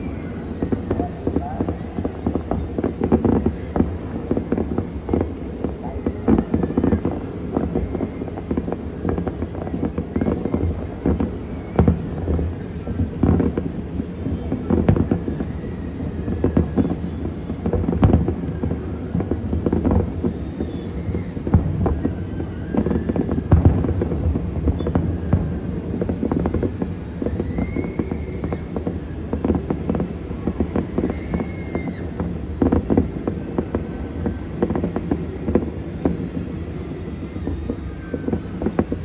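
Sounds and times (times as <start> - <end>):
distant fireworks booms and pops: 0.0 - 39.0.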